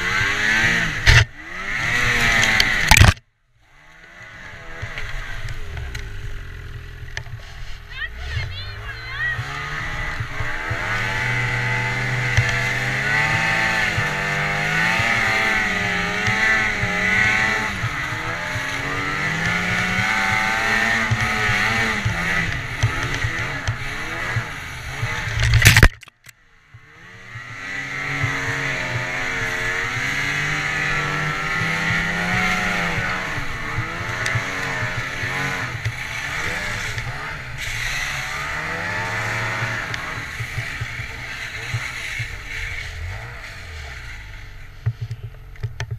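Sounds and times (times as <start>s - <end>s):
snowmobile engine revving: 0.0s - 26.0s, 26.6s - 45.9s.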